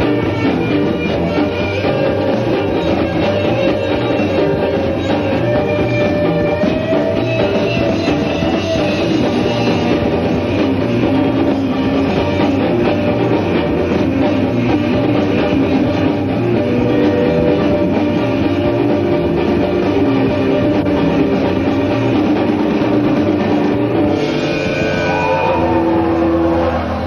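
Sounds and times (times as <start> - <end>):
drum kit: 0.0 - 27.0
electric guitar: 0.0 - 27.0
rock band playing: 0.0 - 27.0.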